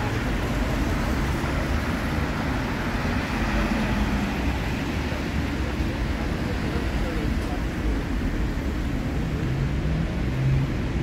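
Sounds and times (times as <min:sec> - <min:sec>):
car engines: 0:00.0 - 0:11.0
tyres on wet asphalt: 0:00.0 - 0:11.0.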